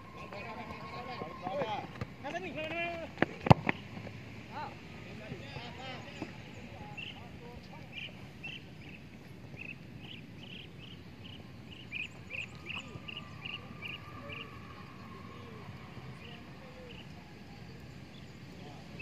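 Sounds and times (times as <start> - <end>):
steady outdoor noise: 0.0 - 19.0.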